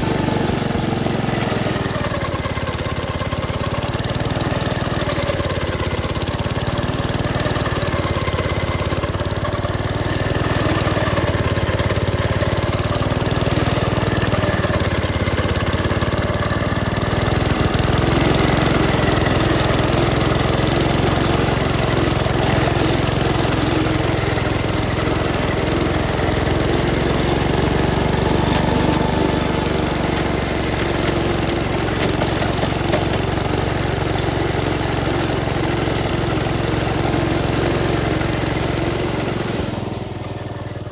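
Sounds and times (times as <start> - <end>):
snowblower working: 0.0 - 40.9
tractor engine running: 0.0 - 40.9.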